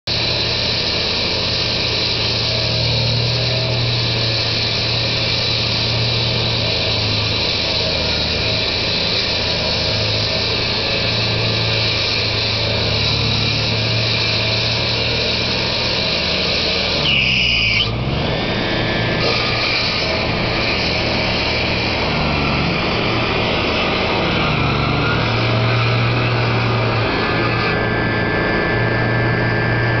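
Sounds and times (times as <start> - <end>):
power saw cutting: 0.1 - 30.0.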